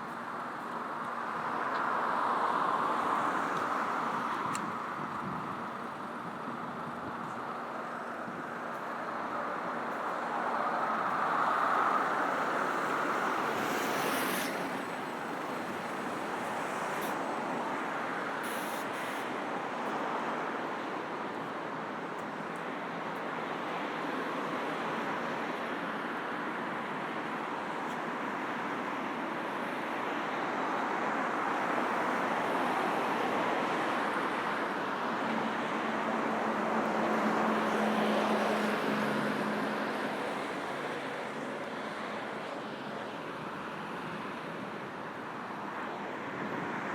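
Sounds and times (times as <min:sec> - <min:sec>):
passing cars and buses: 0:00.0 - 0:46.9.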